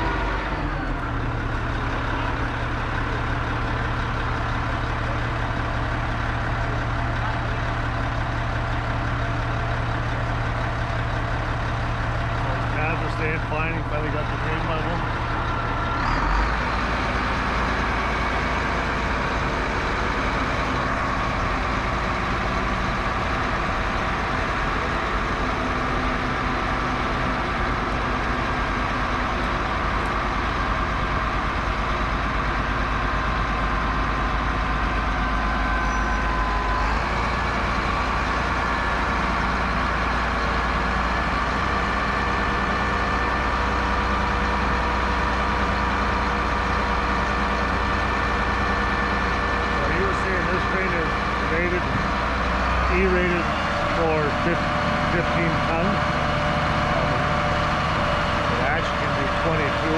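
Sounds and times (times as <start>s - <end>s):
crane engine running: 0.0s - 59.9s.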